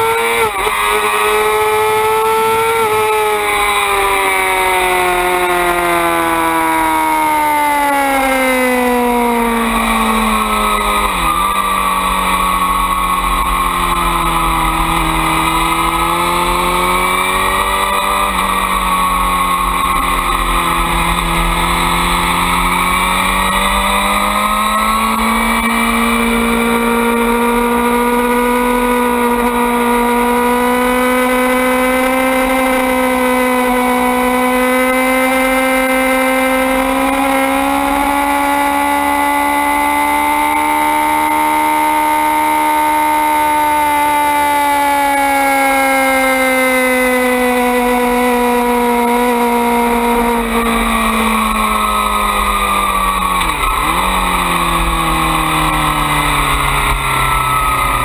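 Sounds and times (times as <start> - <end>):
motorcycle race engine: 0.0 - 58.0.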